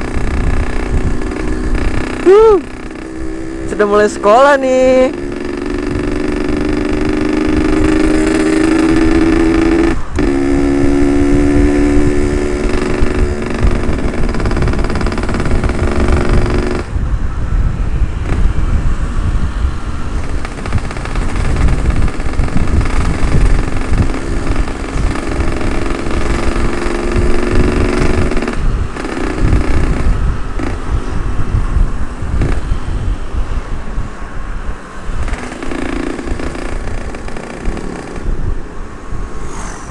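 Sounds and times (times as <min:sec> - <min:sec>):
two-stroke motorcycle engine: 0:00.0 - 0:17.0, 0:18.1 - 0:18.9, 0:19.7 - 0:33.0, 0:35.1 - 0:38.6
wind rumble on microphone: 0:00.0 - 0:39.9.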